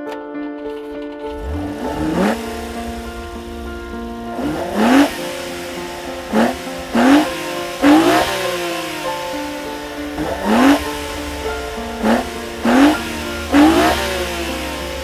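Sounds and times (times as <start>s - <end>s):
background music with held notes: 0.0s - 15.0s
race car engine revving: 1.3s - 15.0s.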